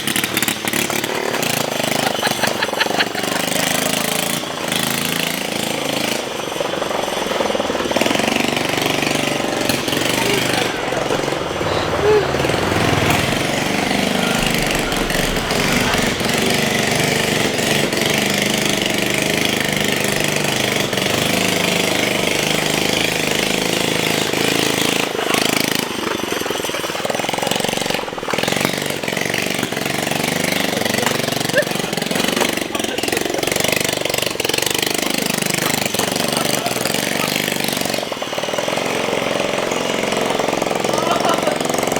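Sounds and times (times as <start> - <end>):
small motorcycle engine revving: 0.0 - 41.9.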